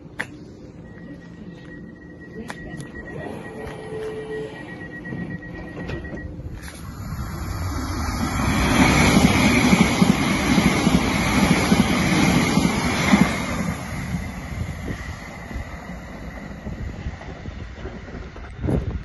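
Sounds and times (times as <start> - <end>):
passenger train passing: 0.0 - 19.0.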